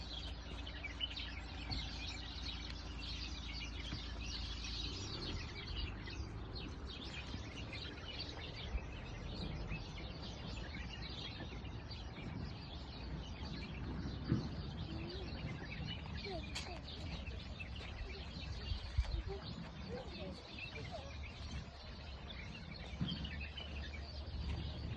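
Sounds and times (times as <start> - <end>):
small birds chirping: 0.0 - 24.9
steady low rumble: 0.0 - 24.9.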